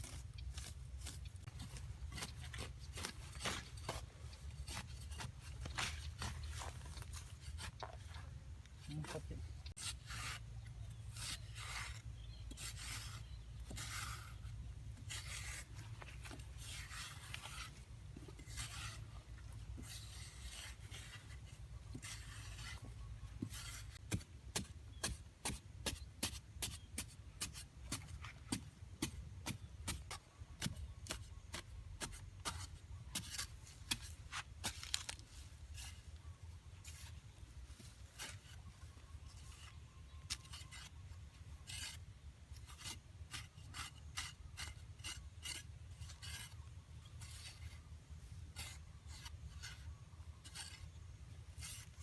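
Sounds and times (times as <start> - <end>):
rasping scraping strokes: 0.0 - 52.0.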